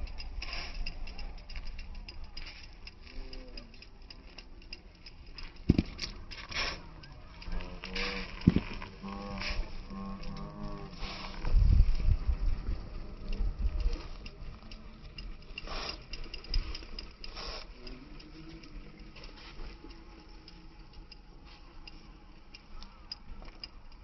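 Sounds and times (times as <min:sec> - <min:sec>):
bicycle ticking and clicking: 0:00.0 - 0:24.0.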